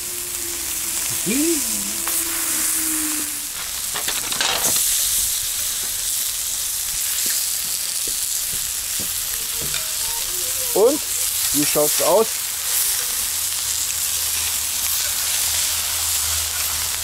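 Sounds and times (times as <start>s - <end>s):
food sizzling on a hot plate: 0.0s - 17.0s.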